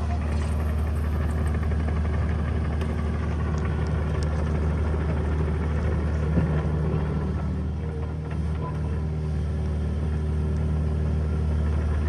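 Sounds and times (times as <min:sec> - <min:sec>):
earthmoving machine engine running: 0:00.0 - 0:12.0.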